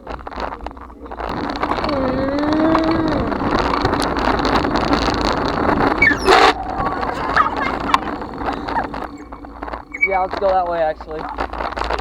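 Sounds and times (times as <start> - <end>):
bicycle rushing rattle: 0.0 - 12.0
wind buffeting microphone: 0.0 - 12.0.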